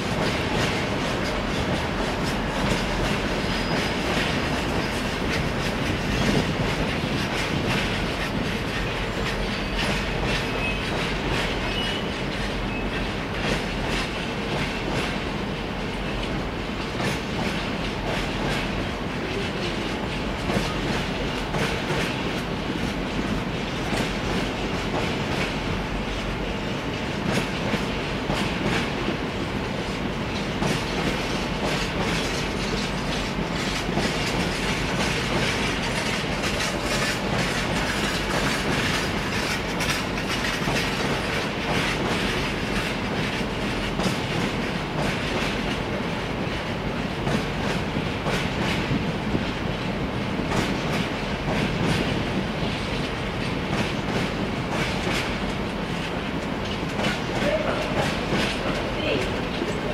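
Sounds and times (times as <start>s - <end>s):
freight train rumble: 0.0s - 59.9s
train wheels clacking over rail joints: 0.0s - 59.9s.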